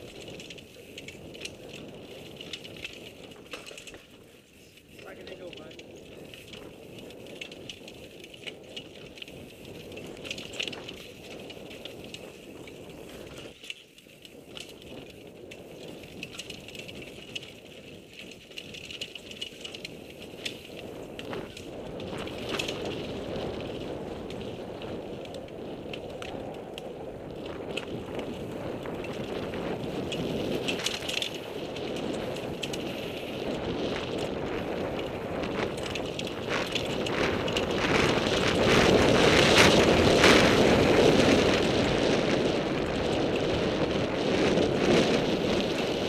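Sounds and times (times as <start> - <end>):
bike clicks and rattles: 0.0 - 46.0.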